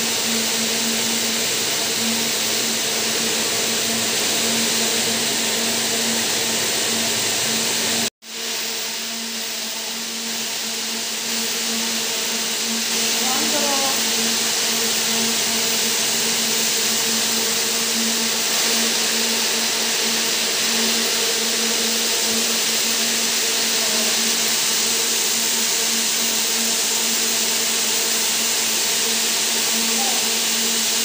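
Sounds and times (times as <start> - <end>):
machine hum: 0.0 - 31.0
spinning spindles whirring: 0.0 - 31.0.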